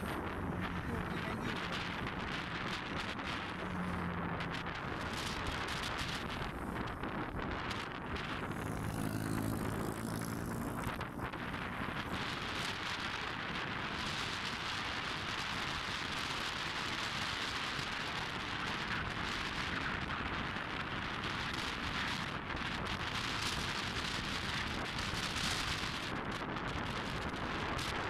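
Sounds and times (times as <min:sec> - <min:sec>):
road noise: 0:00.0 - 0:28.0
wind buffeting microphone: 0:00.0 - 0:28.0.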